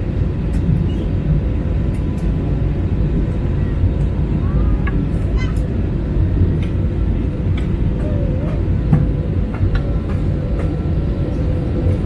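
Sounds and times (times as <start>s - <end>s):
jet cabin roar: 0.0s - 12.0s.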